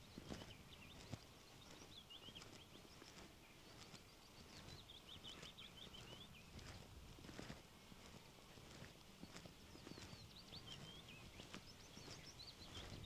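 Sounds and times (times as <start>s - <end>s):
songbird singing: 0.0s - 6.9s, 7.5s - 13.0s
soft footsteps on lane: 0.0s - 13.0s.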